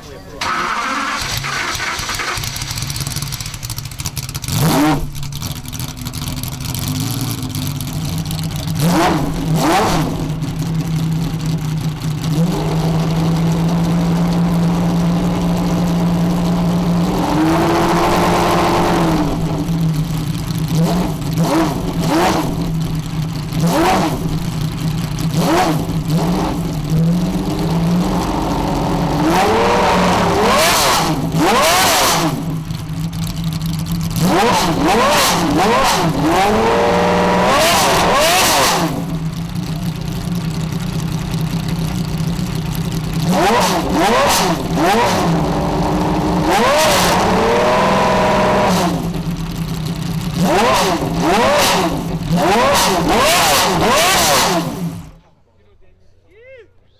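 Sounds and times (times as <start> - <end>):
car engine idling and revving: 0.0 - 55.3.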